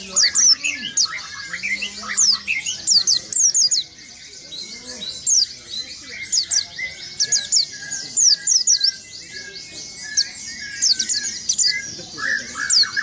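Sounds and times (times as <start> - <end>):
bird singing rolling song: 0.0 - 13.0.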